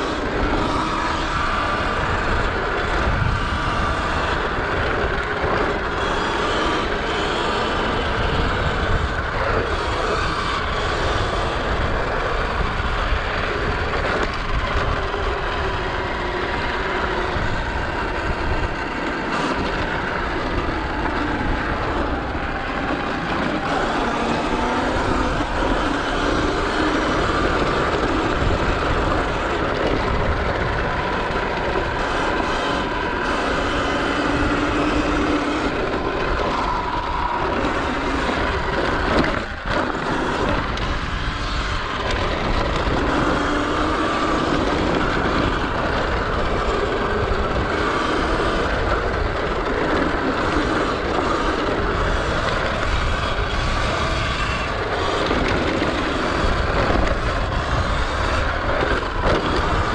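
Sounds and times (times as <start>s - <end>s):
electric motor whine: 0.0s - 59.9s
wind and tyre noise: 0.0s - 59.9s.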